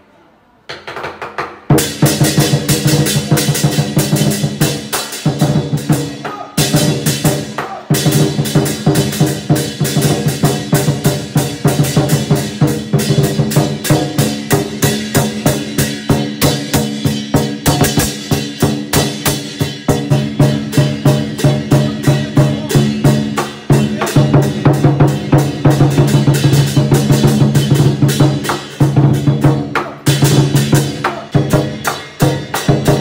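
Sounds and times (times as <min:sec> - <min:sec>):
cymbals clashing: 0:01.7 - 0:33.0
large drum beaten fast: 0:01.7 - 0:33.0.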